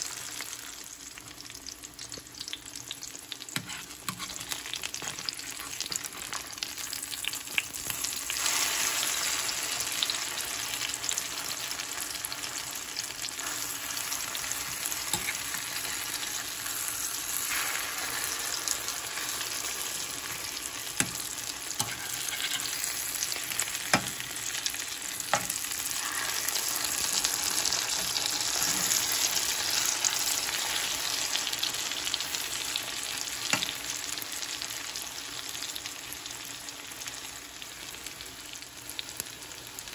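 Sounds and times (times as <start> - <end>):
omelet sizzling in hot oil: 0.0 - 39.9.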